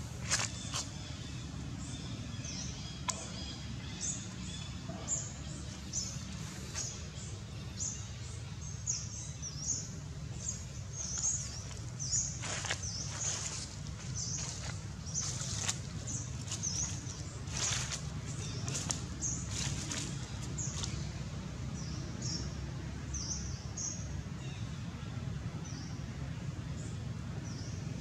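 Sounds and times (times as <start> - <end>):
birds chirping: 0.0 - 28.0
low outdoor rumble: 0.0 - 28.0.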